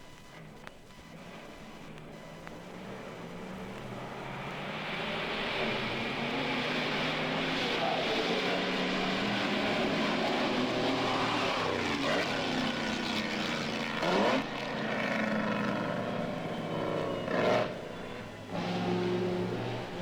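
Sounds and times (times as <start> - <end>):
racing car engines passing: 2.1 - 20.0.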